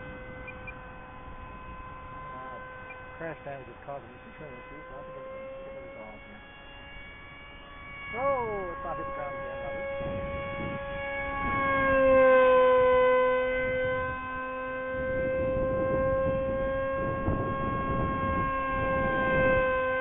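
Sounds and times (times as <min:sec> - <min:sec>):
model plane motor whining: 0:00.0 - 0:20.0.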